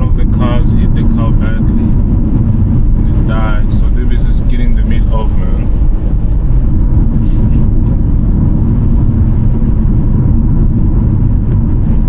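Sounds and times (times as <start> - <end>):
road noise: 0.0 - 12.0
wind buffeting: 0.0 - 12.0.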